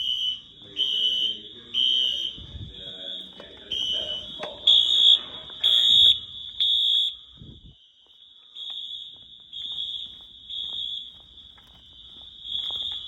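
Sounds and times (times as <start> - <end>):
high-pitched fire alarm blast: 0.0 - 13.0
pulsing fire alarm horn tone: 0.0 - 13.0.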